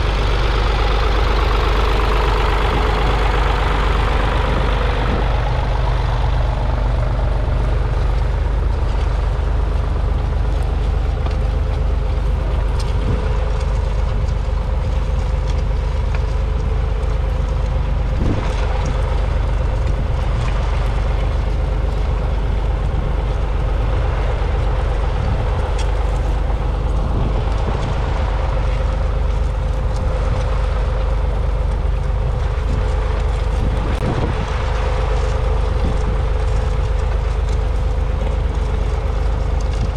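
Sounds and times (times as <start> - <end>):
diesel tractor engine under load: 0.0 - 39.9
plough pulling through soil: 0.0 - 39.9.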